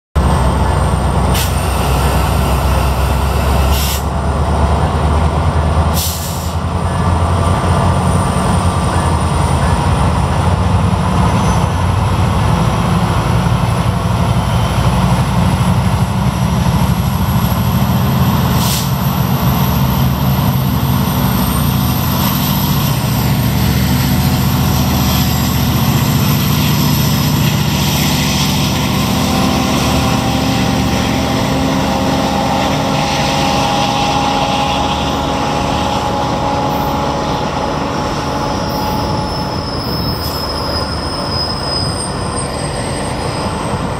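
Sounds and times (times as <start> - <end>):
locomotive engine rumbling: 0.2 - 43.9
wheels squealing on rails: 0.2 - 43.9.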